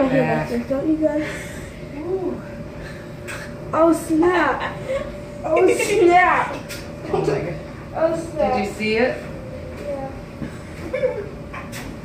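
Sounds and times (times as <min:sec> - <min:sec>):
laundry machine running: 0:00.0 - 0:12.0.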